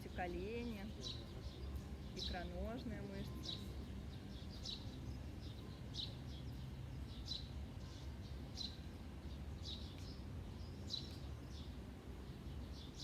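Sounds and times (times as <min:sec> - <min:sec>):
bird high chirp: 0:00.0 - 0:11.8.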